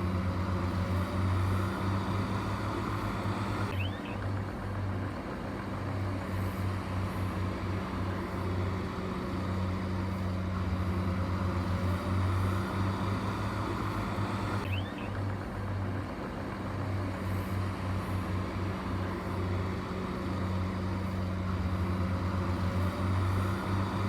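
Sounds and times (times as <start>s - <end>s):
construction machinery diesel engine: 0.0s - 24.0s.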